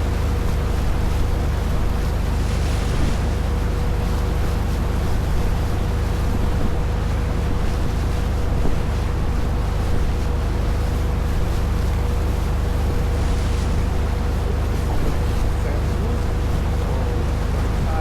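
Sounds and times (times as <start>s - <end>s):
boat engine droning: 0.0s - 18.0s
rushing water: 0.0s - 18.0s.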